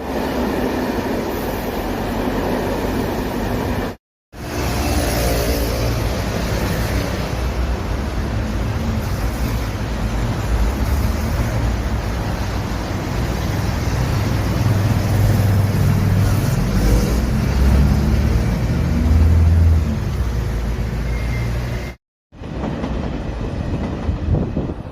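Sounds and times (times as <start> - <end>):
urban road traffic: 0.0 - 24.9.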